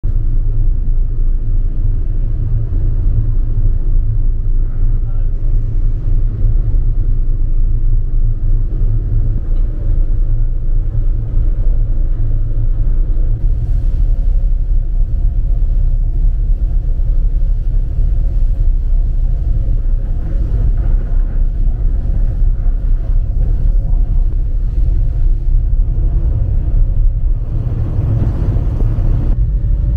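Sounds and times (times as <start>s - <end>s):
ferry engines rumbling: 0.0s - 29.9s.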